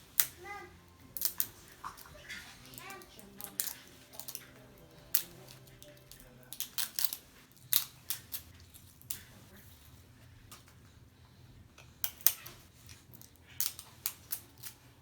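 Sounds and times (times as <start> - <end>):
toy packaging clicking and crinkling: 0.0 - 9.5, 12.0 - 15.0.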